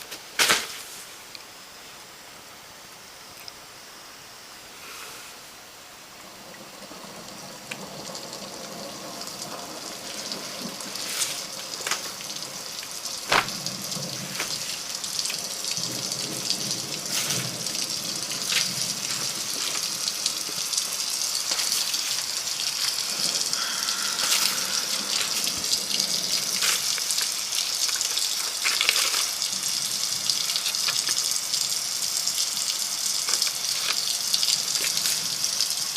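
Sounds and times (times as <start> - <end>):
hiss of rainfall: 0.0 - 35.9.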